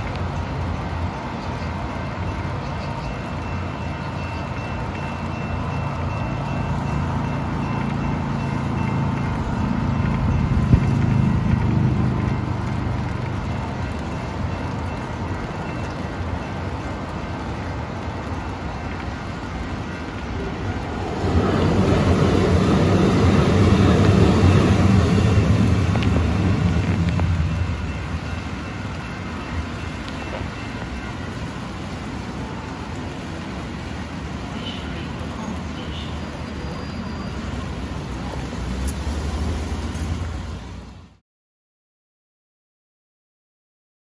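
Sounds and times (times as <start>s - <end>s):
light-rail train passing: 0.0s - 41.2s.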